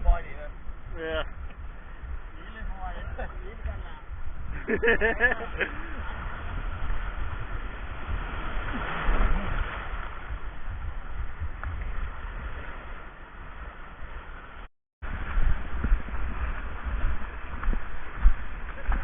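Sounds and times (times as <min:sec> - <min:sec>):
wind rumble on microphone: 0:00.0 - 0:19.0
sea waves washing: 0:00.2 - 0:19.0.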